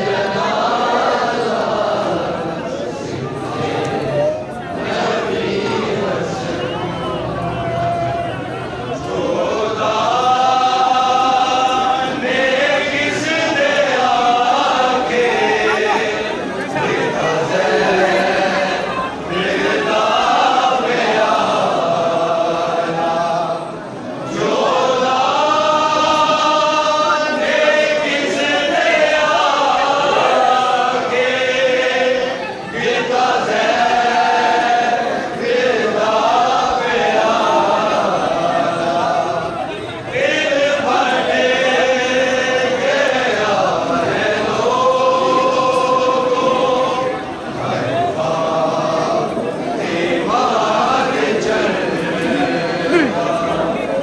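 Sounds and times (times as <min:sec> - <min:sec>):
crowd of men chanting: 0:00.0 - 0:54.0.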